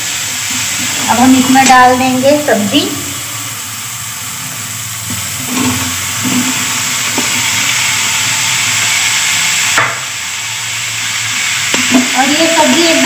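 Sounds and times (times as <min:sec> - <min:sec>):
vegetables sizzling in hot pan: 0:00.0 - 0:13.0.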